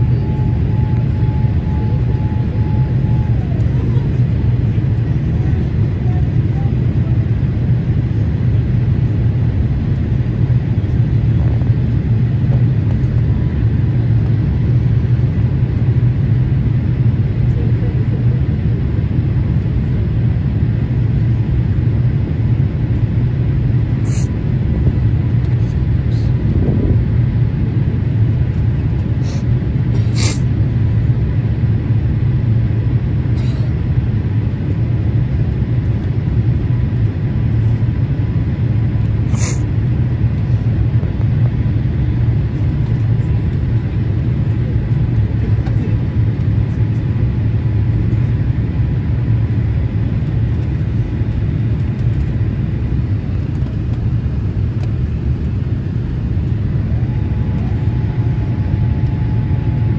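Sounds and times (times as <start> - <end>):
airplane cabin engine roar: 0.0 - 59.9
faint steady whine: 0.0 - 59.9.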